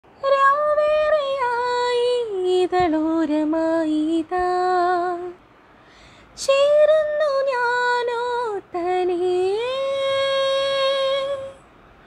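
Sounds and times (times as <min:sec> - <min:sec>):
woman singing unaccompanied: 0:00.1 - 0:05.5, 0:06.4 - 0:11.7.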